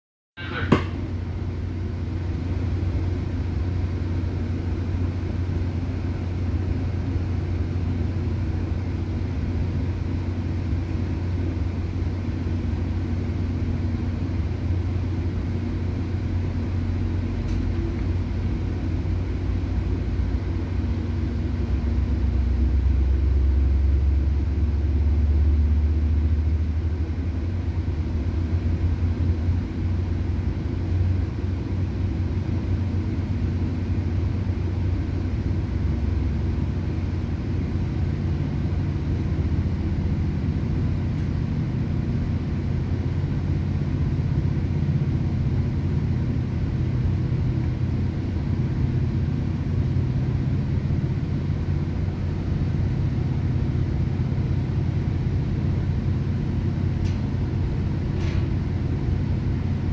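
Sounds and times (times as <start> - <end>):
train rumbling inside coach: 0.4 - 59.9.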